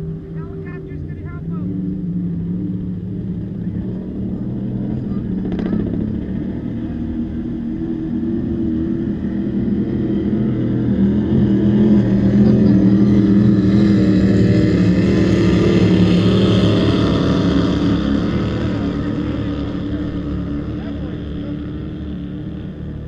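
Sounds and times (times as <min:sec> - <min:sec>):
powerboat engines droning: 0:00.0 - 0:23.0.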